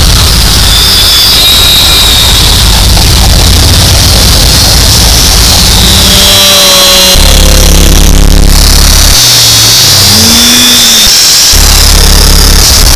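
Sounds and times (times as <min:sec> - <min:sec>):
deep drone: 0:00.0 - 0:12.9
distorted static noise: 0:00.0 - 0:12.9
high whine: 0:00.0 - 0:12.9
sliding tones: 0:00.0 - 0:12.9.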